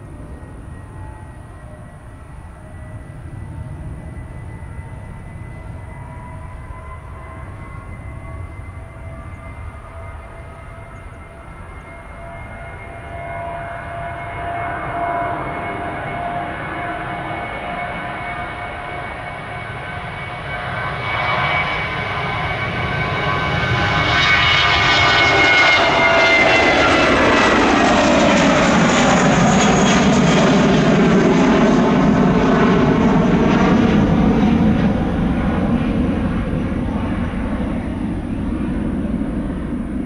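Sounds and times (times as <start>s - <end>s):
jet airliner passing: 0.0s - 40.0s.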